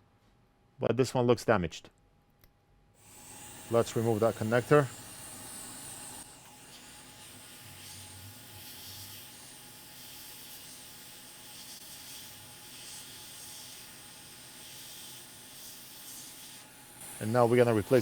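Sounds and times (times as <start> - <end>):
hot air blower hiss: 3.0 - 18.0.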